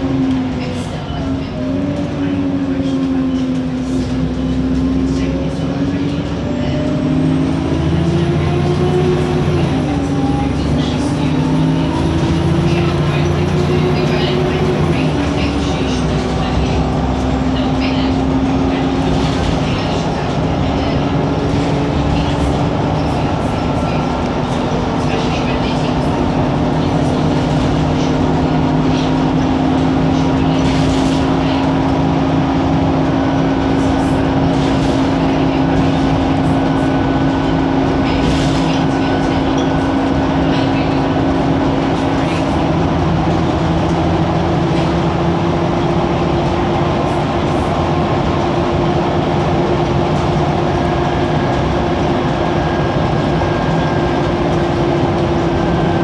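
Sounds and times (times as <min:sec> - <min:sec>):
diesel bus engine running: 0:00.0 - 0:56.0
fan and turbo whine: 0:00.0 - 0:56.0.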